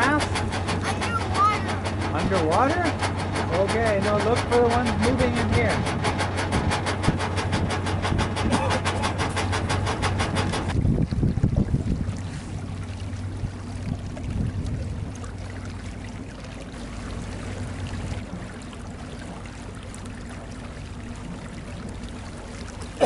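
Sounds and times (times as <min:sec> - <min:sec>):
boat engine humming: 0:00.0 - 0:23.0
water splashing at hull: 0:00.0 - 0:23.0.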